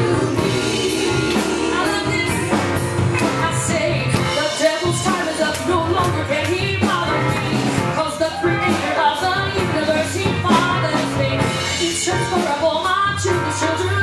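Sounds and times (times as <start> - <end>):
voices singing gospel: 0.0 - 12.4
band playing steady beat: 0.0 - 14.0.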